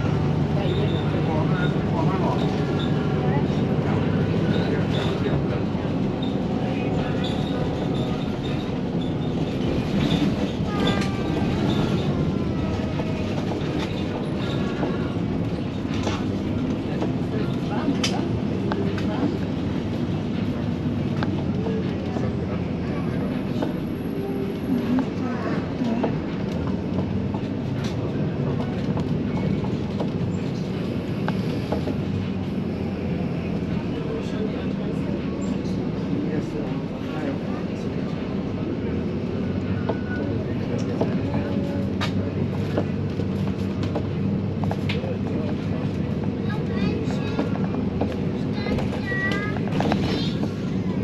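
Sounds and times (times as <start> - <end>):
bus engine and road rumble: 0.0 - 51.0.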